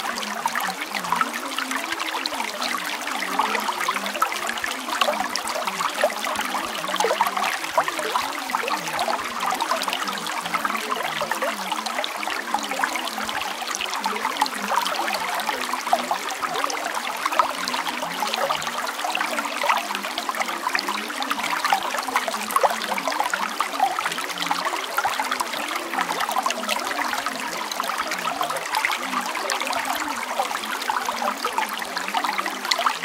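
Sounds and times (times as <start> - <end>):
running water trickling: 0.0 - 33.0.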